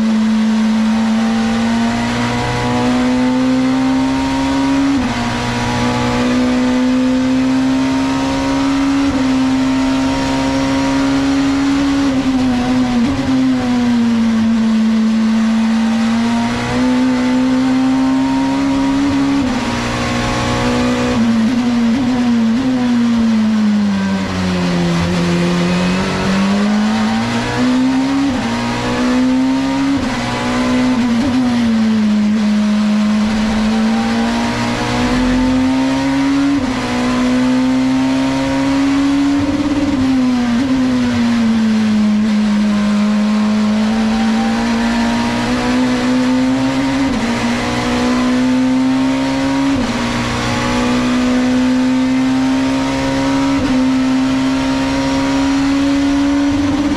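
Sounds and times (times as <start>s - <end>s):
race car engine accelerating: 0.0s - 56.9s.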